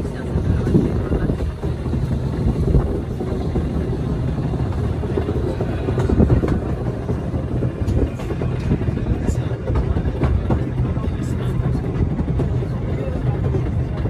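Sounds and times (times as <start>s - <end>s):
rack train rumbling: 0.0s - 14.0s.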